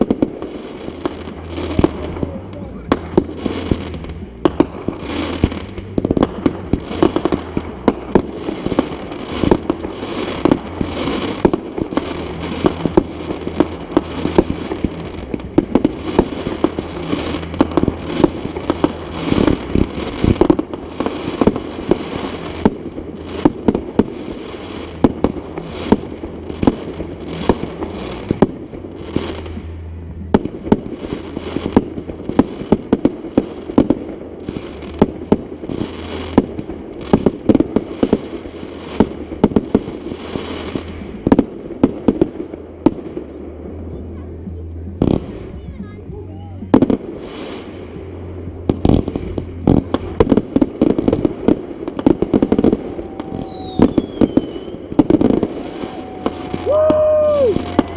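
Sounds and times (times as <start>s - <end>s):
fireworks bangs: 0.0s - 57.9s
fireworks crackling: 0.0s - 57.9s.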